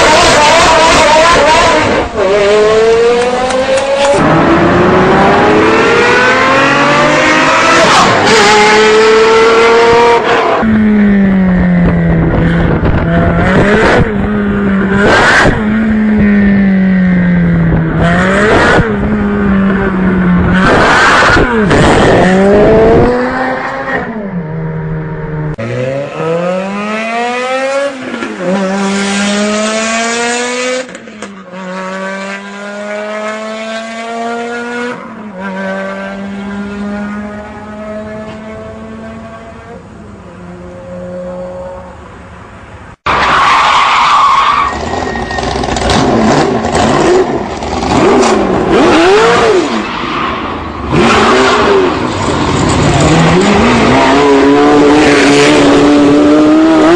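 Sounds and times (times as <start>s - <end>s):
car engines revving hard: 0.0s - 40.0s, 44.3s - 56.9s.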